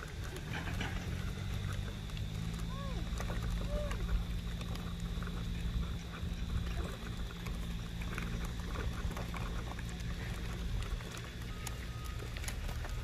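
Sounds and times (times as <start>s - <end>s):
small clicks and rattles: 0.0s - 13.0s
vehicle engine humming: 0.0s - 13.0s.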